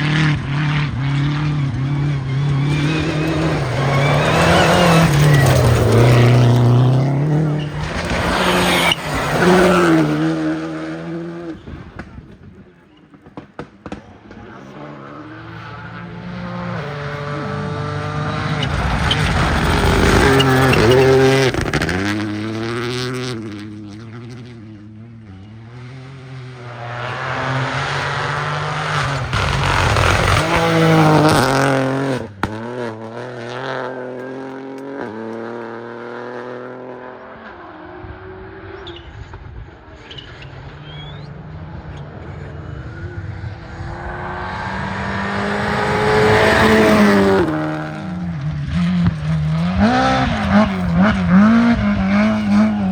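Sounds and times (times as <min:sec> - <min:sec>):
cars passing by: 0:00.0 - 0:52.9
rally car engines revving: 0:00.0 - 0:52.9.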